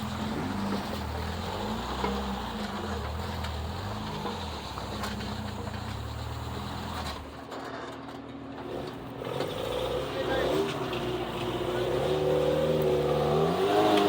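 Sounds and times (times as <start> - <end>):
vehicle engine at low revs: 0.0 - 7.6, 8.5 - 14.0.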